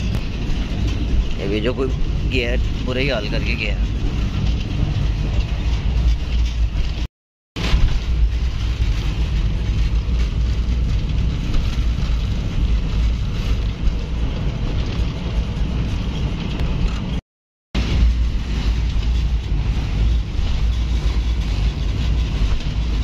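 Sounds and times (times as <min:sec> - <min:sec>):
train rumble inside coach: 0:00.0 - 0:17.2, 0:17.8 - 0:23.0.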